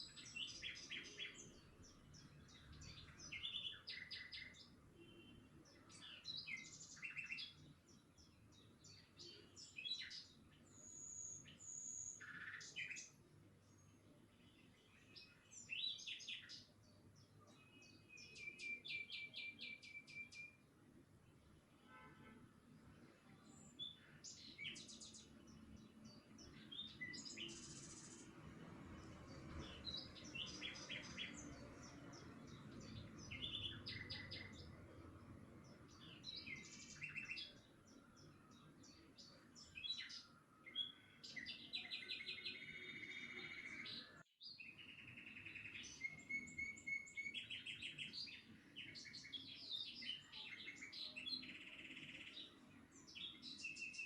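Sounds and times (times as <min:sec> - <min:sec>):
small birds chirping and singing: 0:00.0 - 0:21.8, 0:22.6 - 0:54.0.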